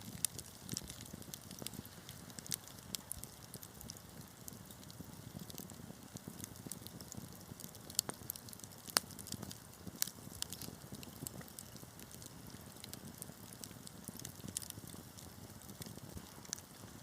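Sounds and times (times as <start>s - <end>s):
fire crackling and popping: 0.0s - 17.0s
fireplace flames hissing: 0.0s - 17.0s.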